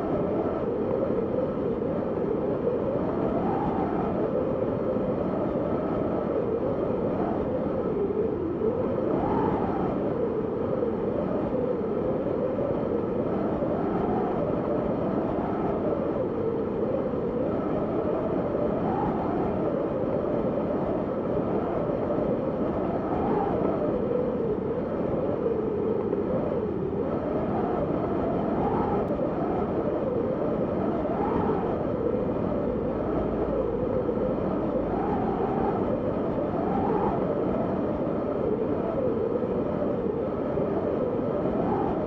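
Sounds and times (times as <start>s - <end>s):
howling snowstorm wind: 0.0s - 42.0s.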